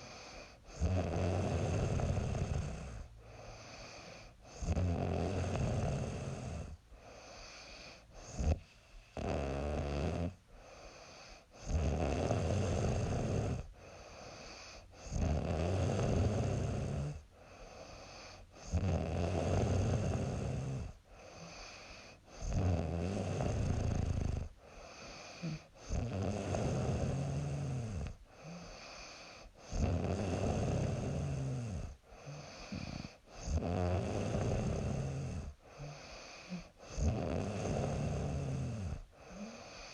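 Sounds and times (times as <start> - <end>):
quiet breathing: 0.0 - 9.6, 10.2 - 39.9
woman snoring: 0.0 - 39.9.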